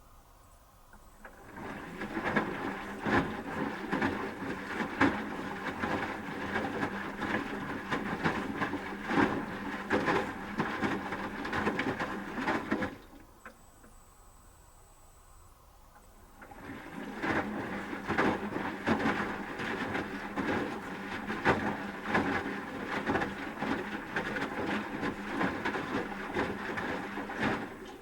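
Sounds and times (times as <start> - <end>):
washing machine motor hum: 1.1 - 14.4, 15.6 - 28.0
laundry tumbling and knocking: 1.4 - 13.1, 16.4 - 28.0.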